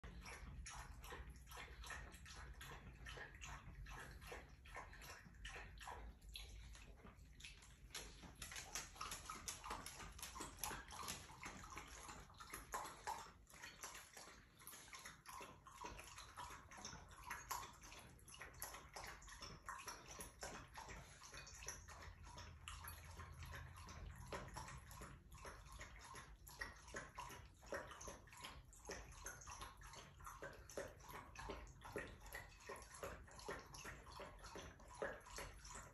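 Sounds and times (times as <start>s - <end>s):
dogs lapping water: 0.0s - 35.9s.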